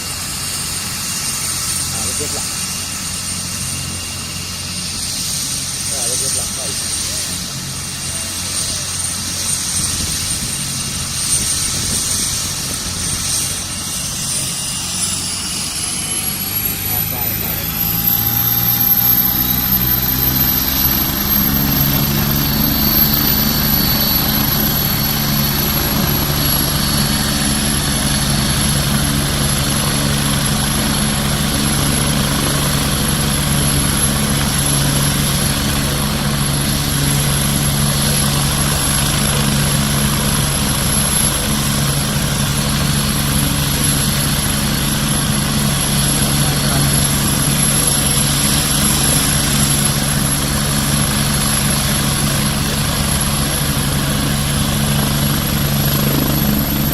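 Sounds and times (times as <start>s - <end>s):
helicopter rotor beat: 0.0s - 56.9s
high turbine whine: 0.0s - 56.9s.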